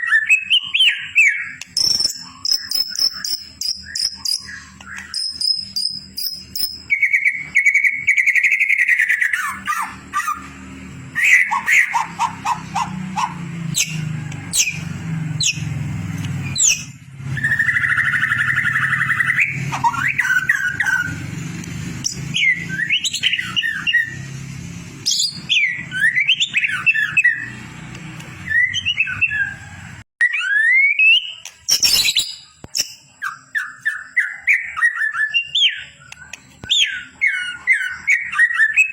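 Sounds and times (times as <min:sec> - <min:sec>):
songbird whistles and trills: 0:00.0 - 0:24.4, 0:25.0 - 0:38.9.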